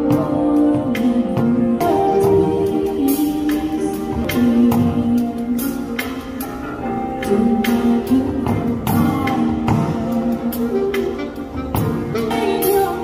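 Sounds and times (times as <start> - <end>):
drum-kit beat: 0.0 - 13.0
guitar: 0.0 - 13.0
saxophone notes: 0.0 - 13.0.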